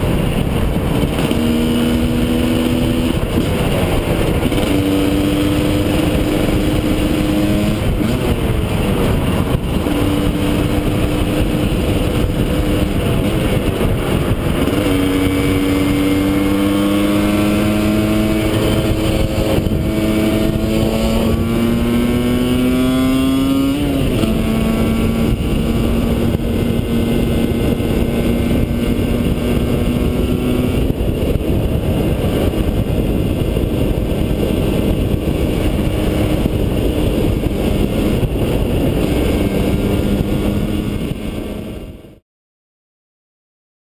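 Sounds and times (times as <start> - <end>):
constant rushing noise: 0.0 - 42.2
motorcycle engine under way: 0.0 - 42.2.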